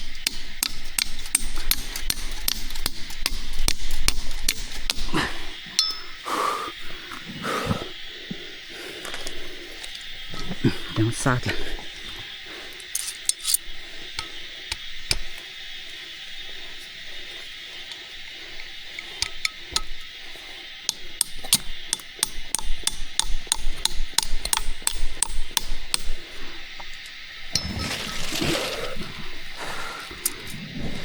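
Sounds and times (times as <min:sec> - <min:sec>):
forest insects hissing: 0:00.0 - 0:31.0.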